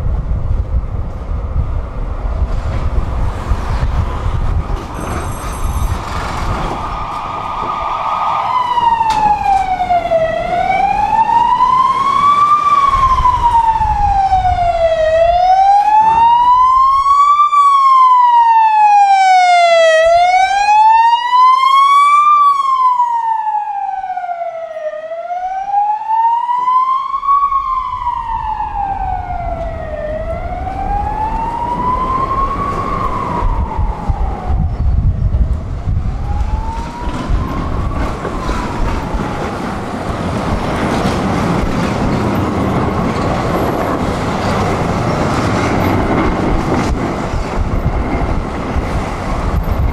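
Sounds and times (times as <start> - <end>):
tram rumbling: 0.0 - 18.2, 23.9 - 49.9
emergency vehicle siren wailing: 5.8 - 49.9.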